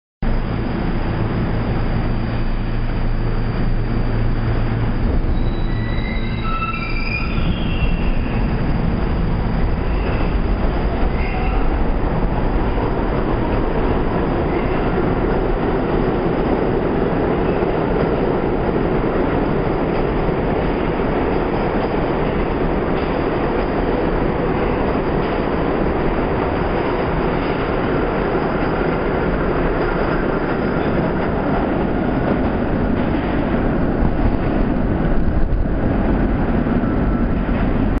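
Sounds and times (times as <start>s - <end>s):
train wheels rumbling on rails: 0.3s - 38.0s.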